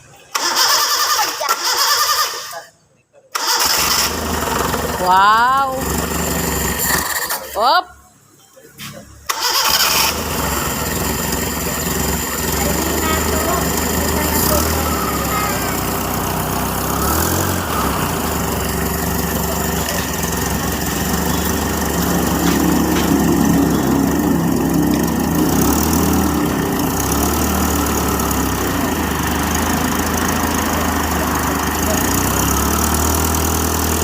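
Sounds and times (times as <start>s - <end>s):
small gasoline engine idling: 3.4s - 7.6s, 9.3s - 34.0s.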